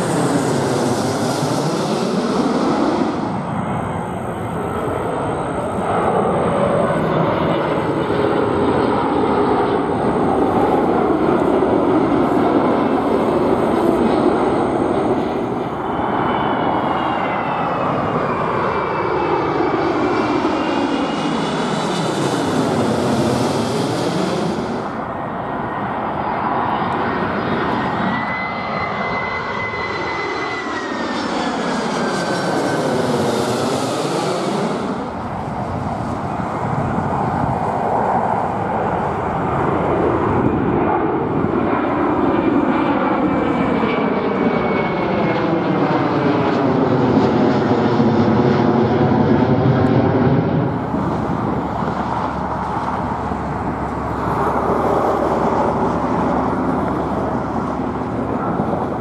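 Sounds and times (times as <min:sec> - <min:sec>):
jet airliner flying overhead: 0:00.0 - 0:59.0.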